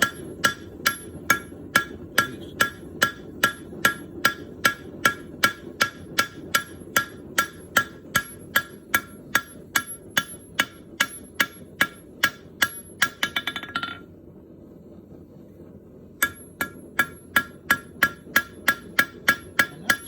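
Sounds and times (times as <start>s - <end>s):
hammer striking metal on anvil: 0.0s - 14.0s, 16.2s - 20.0s.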